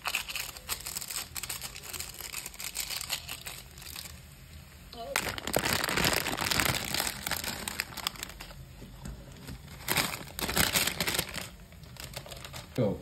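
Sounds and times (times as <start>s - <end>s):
plastic sachets crinkling: 0.0s - 4.3s, 5.0s - 8.6s, 9.3s - 12.9s.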